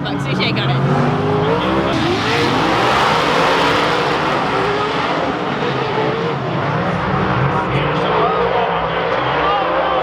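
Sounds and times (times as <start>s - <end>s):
race engines revving high: 0.0s - 10.0s.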